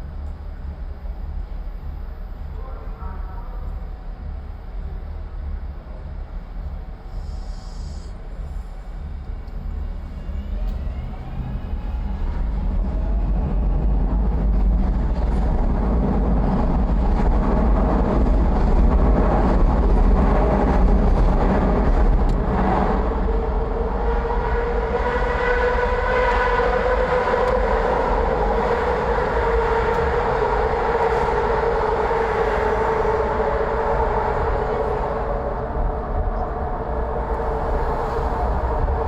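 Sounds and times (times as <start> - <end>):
elevated train rumble: 0.0 - 39.0
train whine: 0.0 - 39.0.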